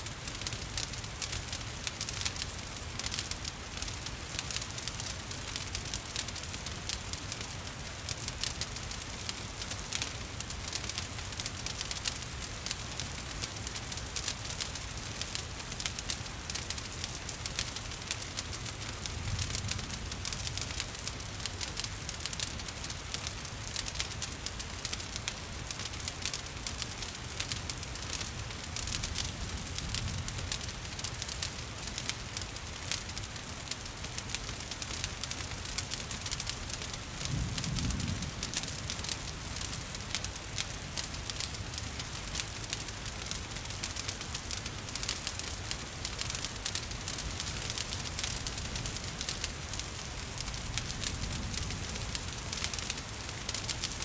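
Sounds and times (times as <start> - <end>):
gentle rain: 0.0 - 54.0
wood fire crackling: 0.0 - 54.0.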